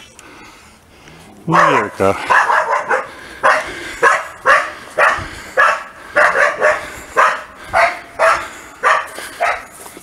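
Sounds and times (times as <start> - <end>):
dog barking: 1.5 - 9.7.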